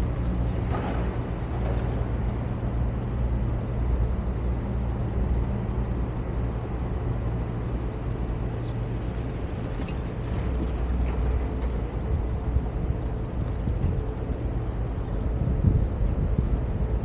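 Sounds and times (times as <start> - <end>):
road noise hiss: 0.0 - 17.0.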